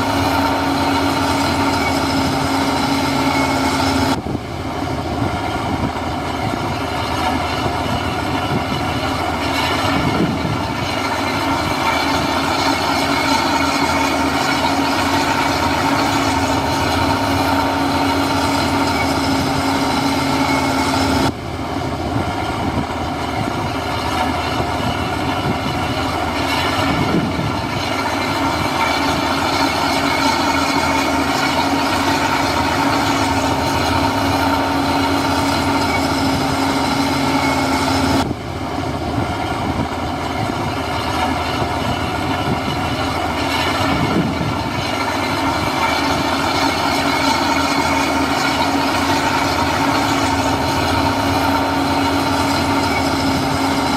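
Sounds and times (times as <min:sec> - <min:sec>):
diesel construction machinery running: 0:00.0 - 0:53.9
steady whine: 0:00.0 - 0:53.9.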